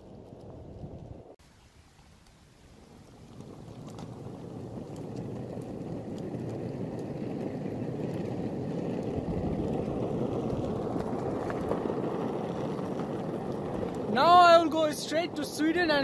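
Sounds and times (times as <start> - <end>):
longboard wheels rumbling on road: 0.0 - 1.4, 2.8 - 16.0.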